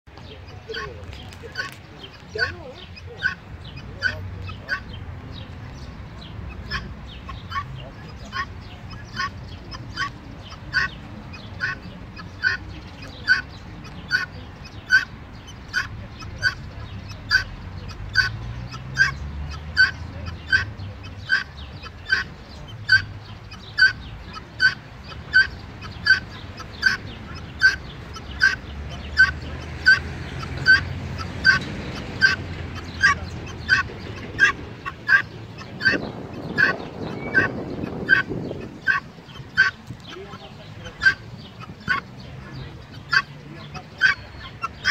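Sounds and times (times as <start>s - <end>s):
guineafowl harsh calls: 0.4s - 44.9s.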